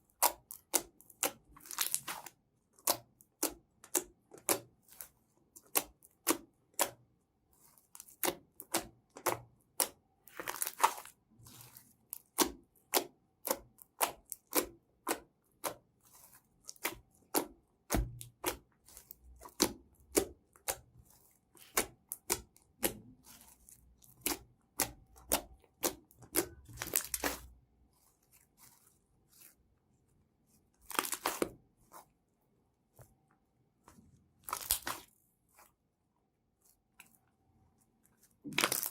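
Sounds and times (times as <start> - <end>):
slime crackling: 0.1 - 7.0, 7.6 - 29.7, 30.5 - 32.2, 33.9 - 35.7, 38.2 - 38.9.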